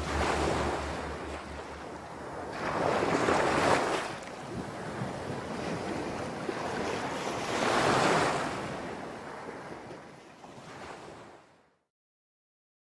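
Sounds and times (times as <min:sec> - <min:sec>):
waves breaking on sandy beach: 0:00.0 - 0:11.5.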